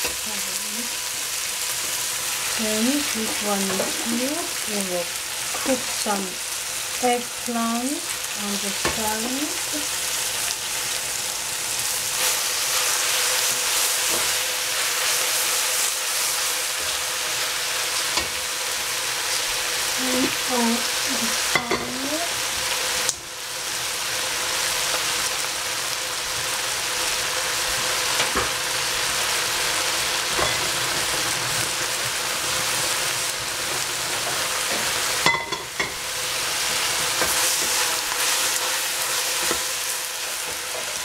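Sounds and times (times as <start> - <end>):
vegetables sizzling in a pot: 0.0 - 41.0.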